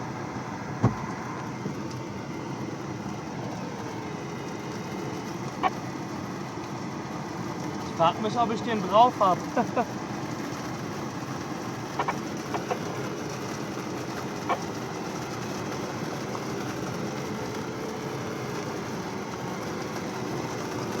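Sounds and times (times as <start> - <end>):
rush of air in cockpit: 0.0 - 21.0.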